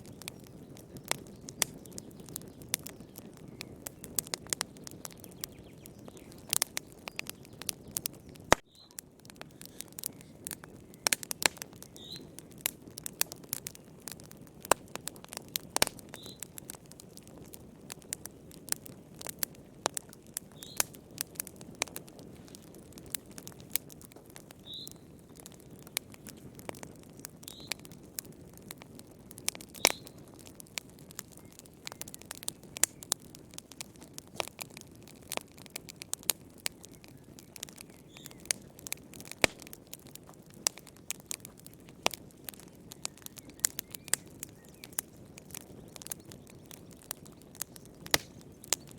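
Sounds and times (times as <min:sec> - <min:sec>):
low rumble of burning: 0:00.0 - 0:48.9
wood fire crackling: 0:00.0 - 0:48.9.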